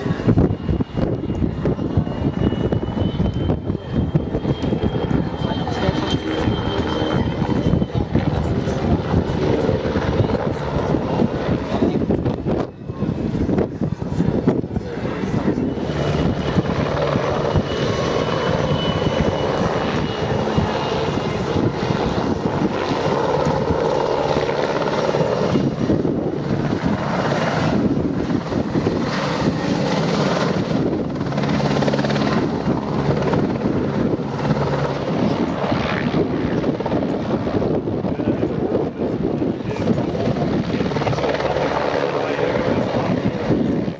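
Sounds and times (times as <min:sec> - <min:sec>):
helicopter rotor beating: 0:00.0 - 0:43.9
turbine engine whine: 0:00.0 - 0:43.9.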